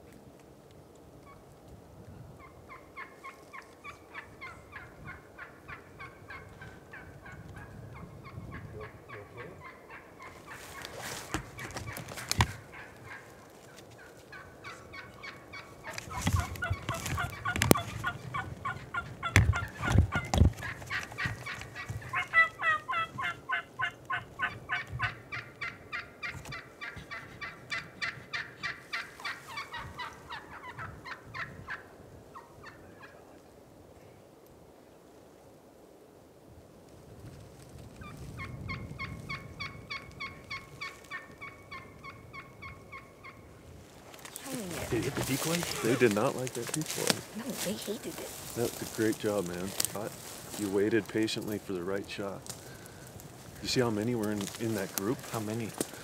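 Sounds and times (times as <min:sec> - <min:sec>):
turkeys gobbling: 0:02.4 - 0:33.3, 0:38.0 - 0:56.0.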